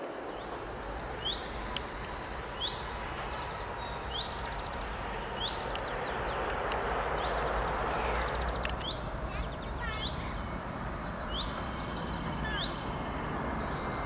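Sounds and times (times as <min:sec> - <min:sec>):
small songbirds chirping: 0:00.0 - 0:14.0
steady rushing background noise: 0:00.0 - 0:14.0.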